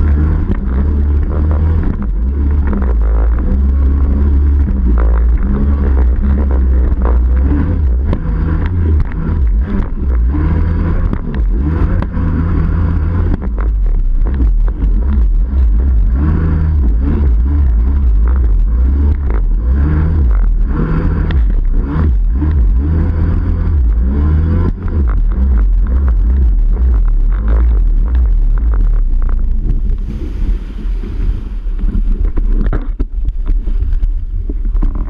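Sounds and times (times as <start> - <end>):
jet ski engine revving: 0.0 - 35.0.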